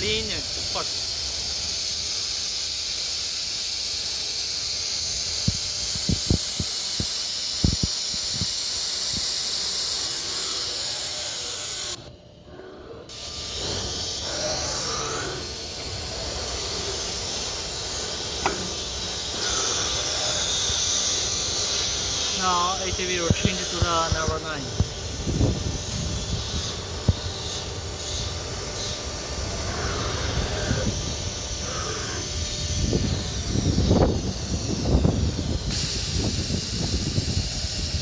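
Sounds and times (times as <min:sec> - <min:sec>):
compressed air hissing: 0:00.0 - 0:38.0
machine noise: 0:00.0 - 0:38.0.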